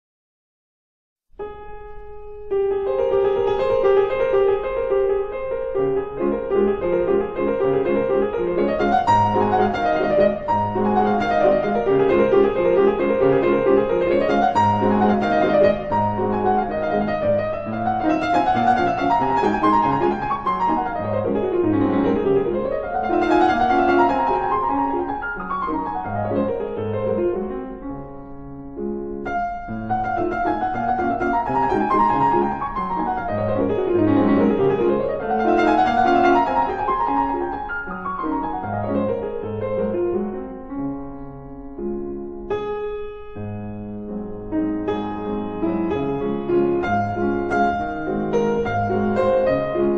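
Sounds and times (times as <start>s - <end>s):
piano music: 1.3s - 49.9s.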